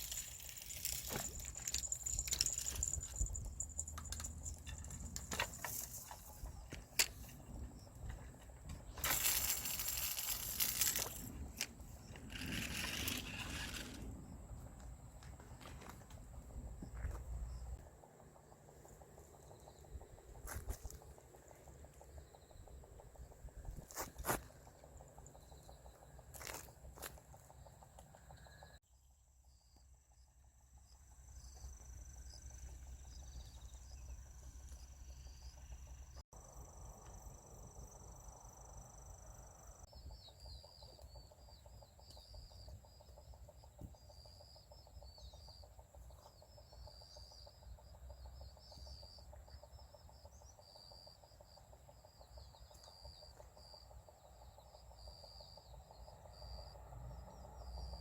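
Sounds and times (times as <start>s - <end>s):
insects chirring: 0.0s - 28.8s, 30.6s - 58.0s
crickets chirping: 0.0s - 58.0s.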